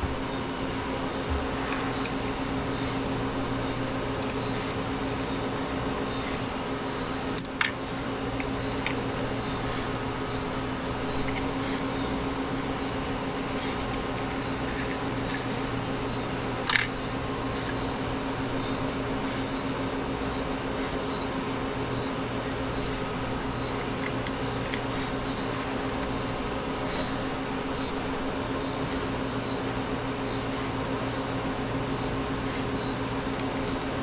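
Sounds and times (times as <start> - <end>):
mechanical hum of equipment: 0.0 - 34.0.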